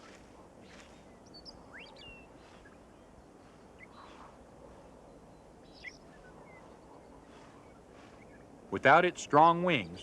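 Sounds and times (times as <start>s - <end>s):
faint outdoor ambience: 0.0s - 10.0s.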